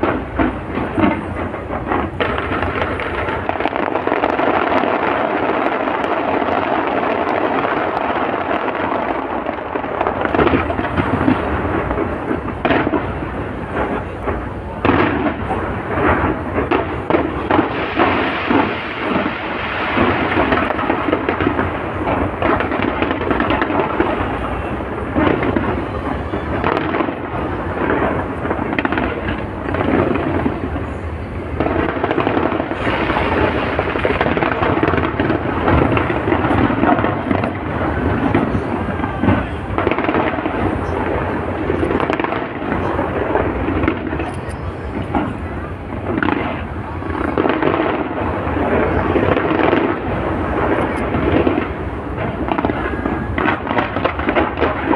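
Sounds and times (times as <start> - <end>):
fireworks booming and crackling: 0.0 - 54.9.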